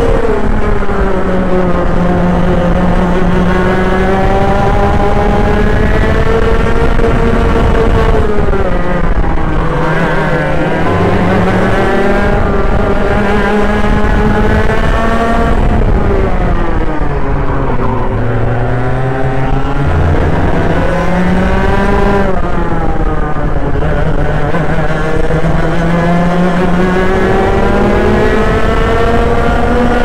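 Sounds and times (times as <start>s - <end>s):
kart engine revving: 0.0s - 30.0s.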